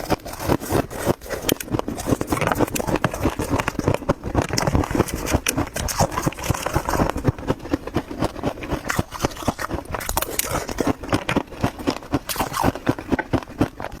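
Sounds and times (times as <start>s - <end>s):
frost being chewed: 0.0s - 14.0s.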